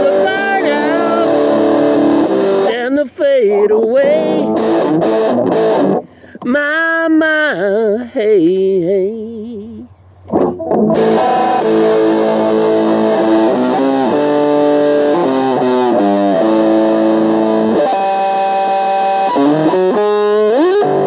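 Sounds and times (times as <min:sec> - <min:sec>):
distorted electric guitar: 0:00.0 - 0:06.8, 0:09.1 - 0:21.0.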